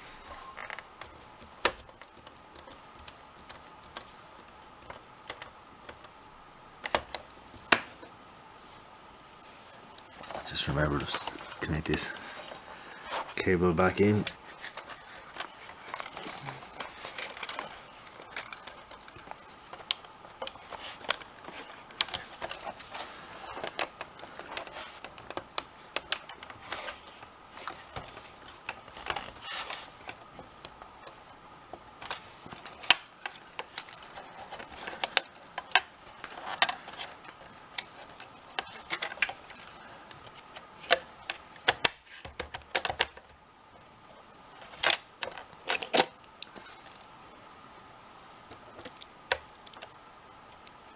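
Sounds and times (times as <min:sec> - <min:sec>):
plastic parts clicking and rattling: 0:00.3 - 0:06.2, 0:06.8 - 0:08.1, 0:10.2 - 0:43.4, 0:44.6 - 0:47.0, 0:48.4 - 0:50.9.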